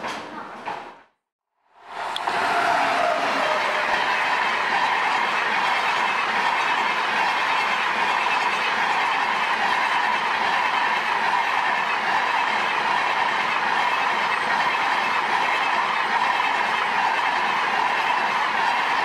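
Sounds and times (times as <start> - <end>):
train wheel and rail noise: 1.7 - 19.0.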